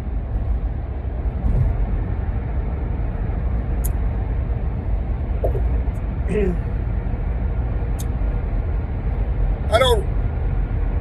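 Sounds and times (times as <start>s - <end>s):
vehicle road noise: 0.0s - 11.0s.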